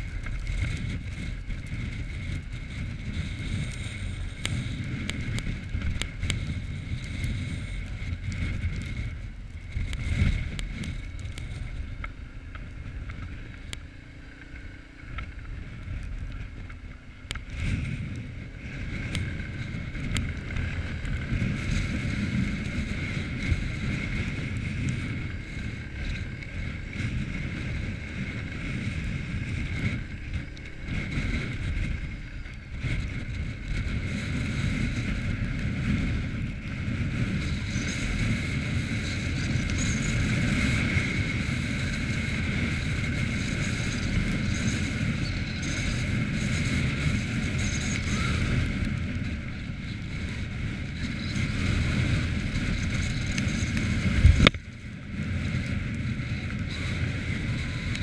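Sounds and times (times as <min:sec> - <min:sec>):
quad bike engine running: 0:00.0 - 0:58.0
wind buffeting microphone: 0:00.0 - 0:58.0.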